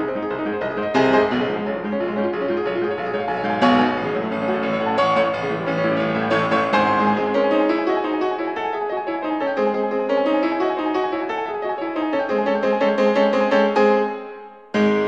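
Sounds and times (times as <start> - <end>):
piano chords struck hard: 0.0 - 15.0
piano music: 0.0 - 15.0.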